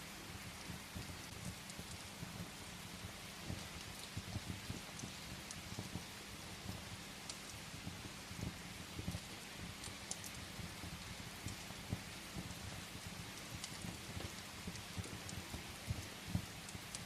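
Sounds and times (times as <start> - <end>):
steady rain: 0.0 - 17.0
wood fire crackling: 0.0 - 17.0.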